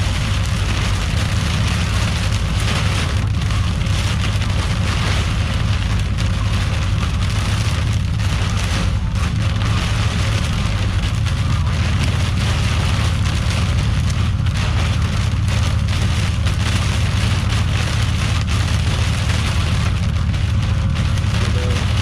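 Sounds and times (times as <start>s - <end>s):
heavy rain and hail: 0.0s - 22.0s
steady low rumble: 0.0s - 22.0s.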